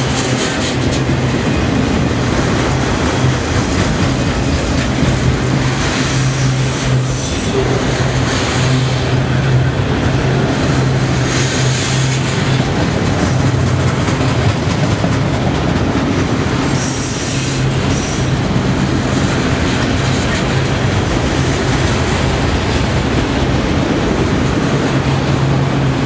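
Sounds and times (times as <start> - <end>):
freight cars rumbling on rails: 0.0 - 26.0.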